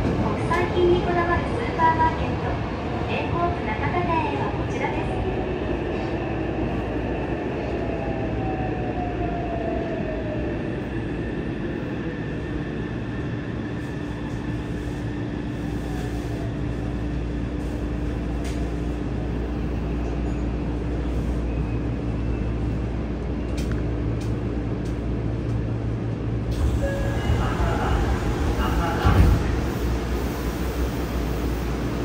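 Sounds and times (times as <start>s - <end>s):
train running on rails: 0.0s - 32.0s.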